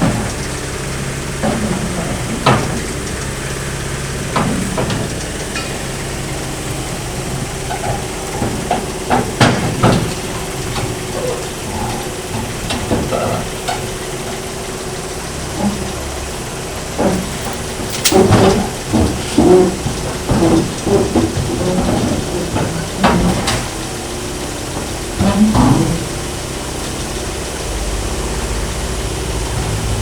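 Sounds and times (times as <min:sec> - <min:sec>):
metal clanks and knocks: 0:00.0 - 0:27.6
excavator diesel engine running: 0:00.0 - 0:30.0.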